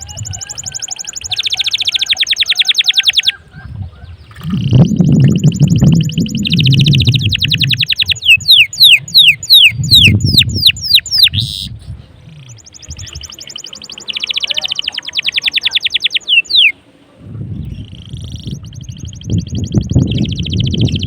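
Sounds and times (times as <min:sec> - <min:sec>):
canary singing: 0:00.0 - 0:16.8, 0:17.6 - 0:21.0.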